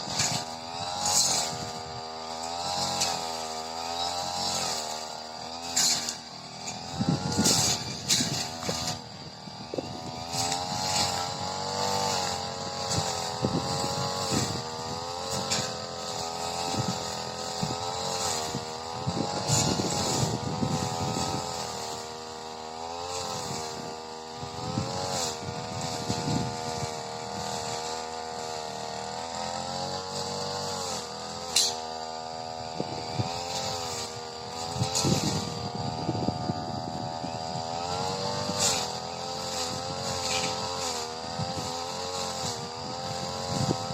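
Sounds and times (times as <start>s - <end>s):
brush cutter engine at high revs: 0.0s - 43.9s.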